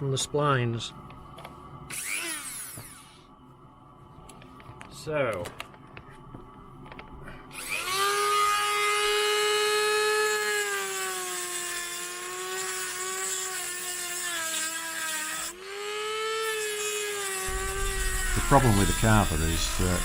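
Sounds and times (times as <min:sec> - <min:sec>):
rotary tool high whine: 0:00.0 - 0:05.0, 0:06.0 - 0:20.0.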